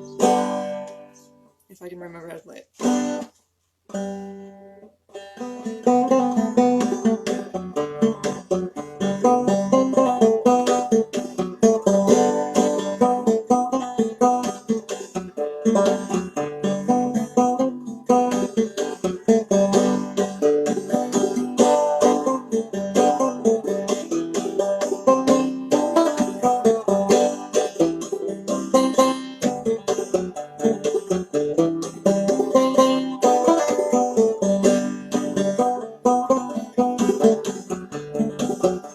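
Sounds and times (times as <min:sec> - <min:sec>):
banjo fiddle tune: 0:00.0 - 0:38.9.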